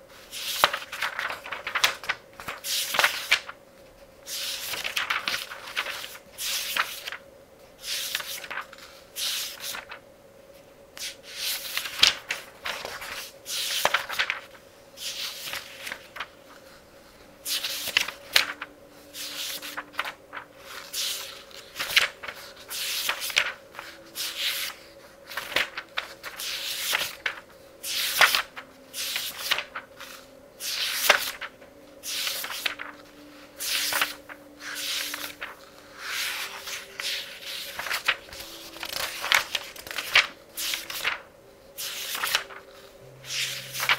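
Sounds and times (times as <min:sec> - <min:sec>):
book pages turning: 0:00.3 - 0:03.6, 0:04.3 - 0:07.2, 0:07.8 - 0:10.0, 0:11.0 - 0:43.9.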